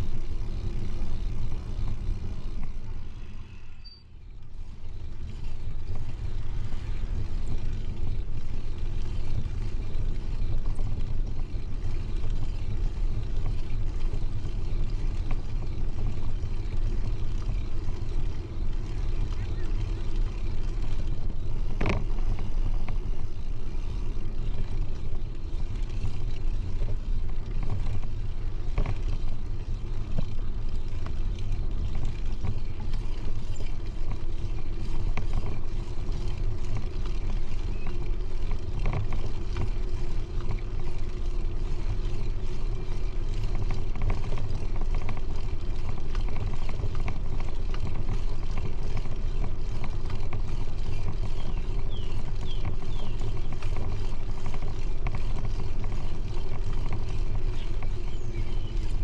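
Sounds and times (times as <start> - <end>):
bicycle tyre noise: 0.0 - 59.0.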